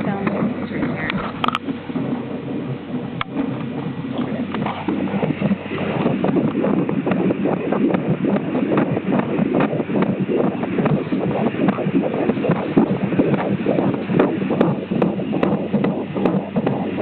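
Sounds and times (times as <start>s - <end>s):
fast heartbeat: 0.0s - 17.0s.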